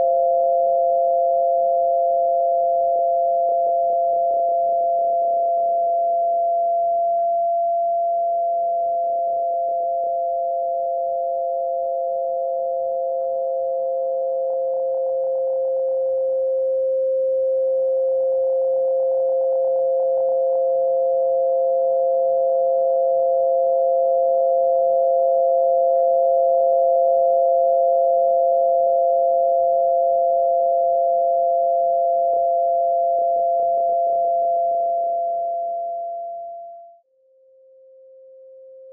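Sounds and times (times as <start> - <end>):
two steady electronic sine tones: 0.0 - 38.9.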